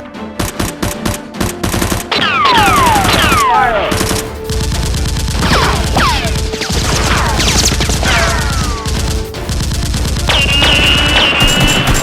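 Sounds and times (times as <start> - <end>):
rapid automatic gunfire: 0.4 - 12.0.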